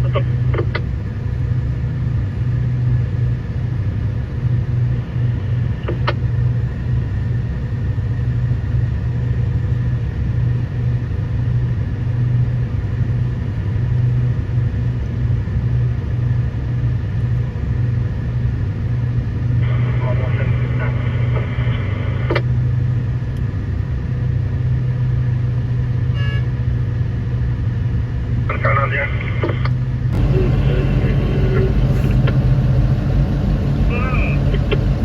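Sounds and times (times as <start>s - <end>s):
diesel engine low drone: 0.0s - 35.0s.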